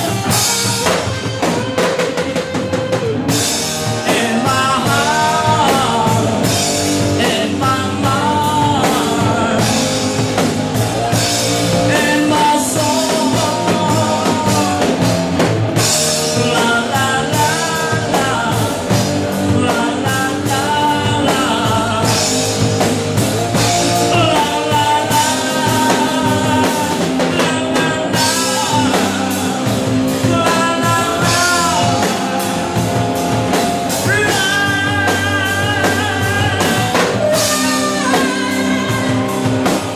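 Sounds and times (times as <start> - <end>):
bass guitar: 0.0 - 39.9
drum kit: 0.0 - 39.9
person singing into a microphone: 0.0 - 39.9.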